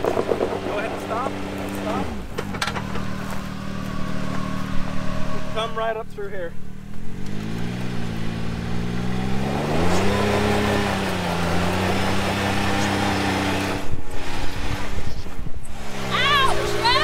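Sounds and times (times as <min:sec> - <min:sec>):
engine pulling under throttle: 0:00.0 - 0:17.0
loud rough noise: 0:00.0 - 0:17.0.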